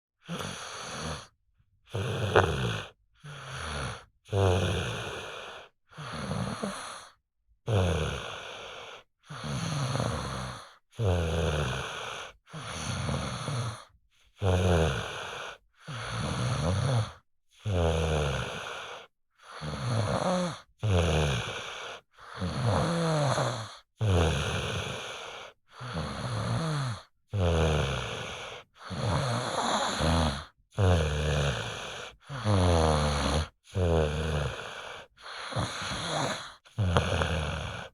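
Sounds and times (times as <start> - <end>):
child snoring: 0.2 - 1.3, 1.9 - 37.9.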